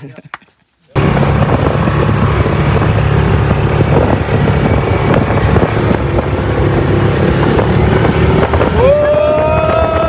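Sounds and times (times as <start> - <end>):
off-road vehicle engine running: 0.9 - 10.0.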